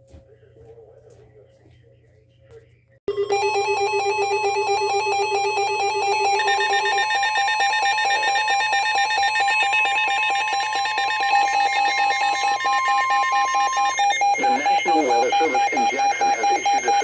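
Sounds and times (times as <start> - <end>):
pulsing electronic alarm beeps: 3.1 - 17.0.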